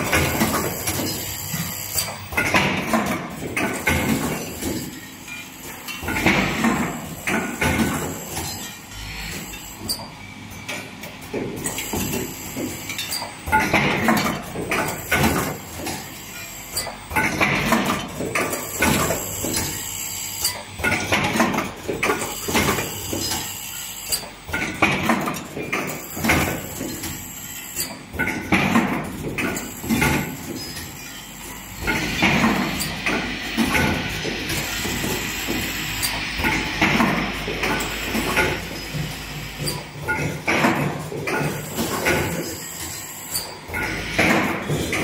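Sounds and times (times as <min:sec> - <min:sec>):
faint high machine whine: 0:00.0 - 0:45.0
machine clattering and knocking: 0:00.0 - 0:45.0.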